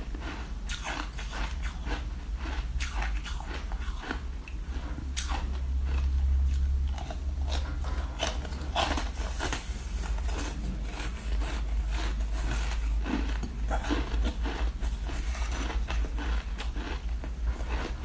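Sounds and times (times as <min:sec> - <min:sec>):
steady low hum: 0:00.0 - 0:18.0
teeth crunching ice: 0:00.0 - 0:18.0.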